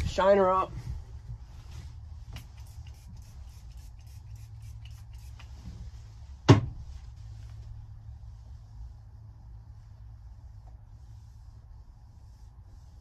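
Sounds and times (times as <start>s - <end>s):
steady low hum: 0.0s - 13.0s
cloth rubbing on screen: 1.0s - 13.0s.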